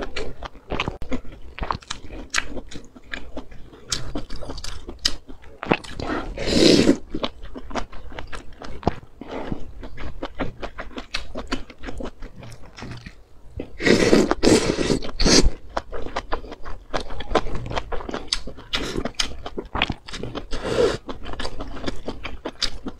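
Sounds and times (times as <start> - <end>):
wet chewing and mouth smacking: 0.0 - 22.9.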